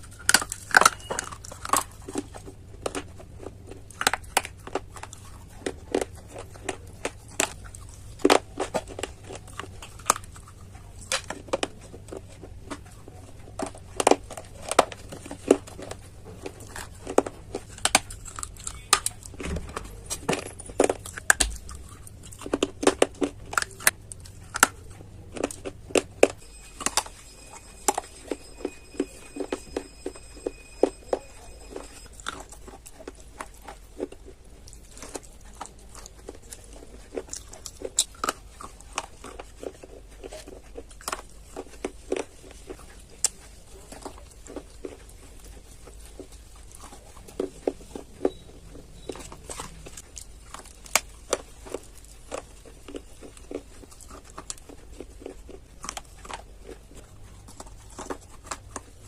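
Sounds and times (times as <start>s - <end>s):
dry clay being chewed: 0.0s - 59.0s.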